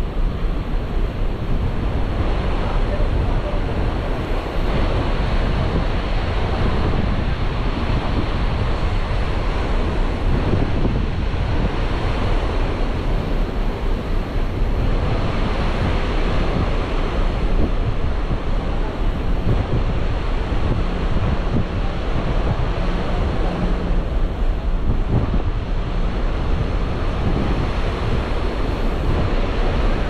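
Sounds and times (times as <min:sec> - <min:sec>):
rush of wind and sea: 0:00.0 - 0:30.0
wind buffeting microphone: 0:00.0 - 0:30.0.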